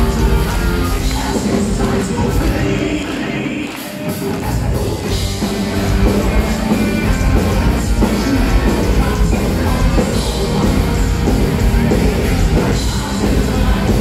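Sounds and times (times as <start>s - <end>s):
drums: 0.0s - 14.0s
electric guitars: 0.0s - 14.0s
metal band playing live: 0.0s - 14.0s.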